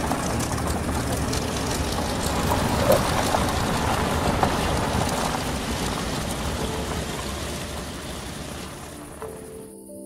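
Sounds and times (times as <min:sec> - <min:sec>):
ultralight aircraft engine and wind: 0:00.0 - 0:09.5.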